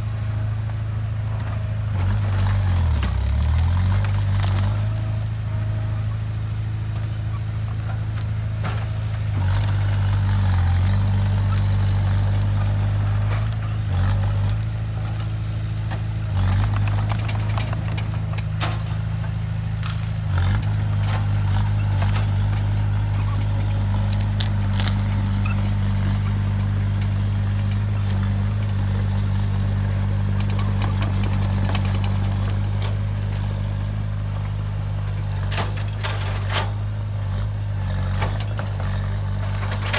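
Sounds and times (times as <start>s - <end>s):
heavy machinery diesel engine running: 0.0s - 39.9s.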